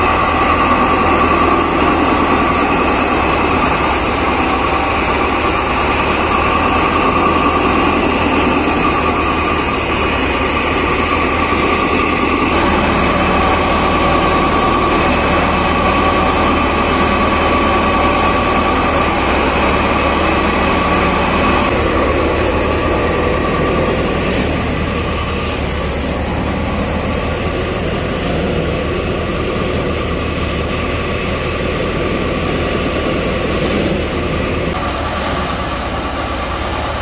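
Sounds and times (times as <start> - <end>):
steady whine: 0.0 - 37.0
thresher mechanical drone: 0.0 - 37.0.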